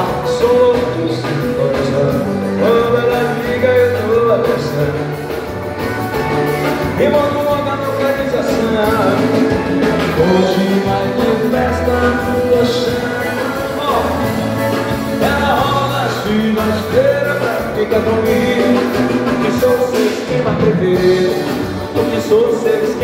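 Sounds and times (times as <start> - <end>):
live dance band over speakers: 0.0 - 23.0.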